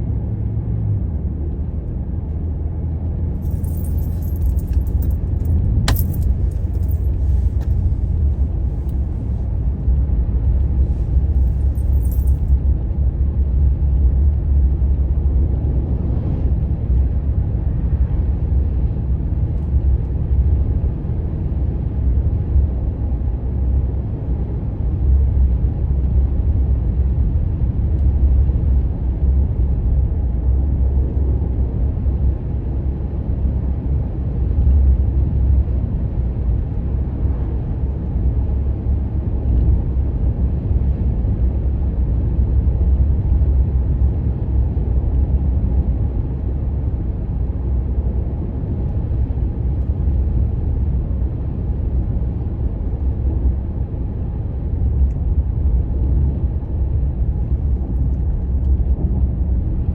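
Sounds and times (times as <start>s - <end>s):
engine and road noise: 0.0s - 59.9s.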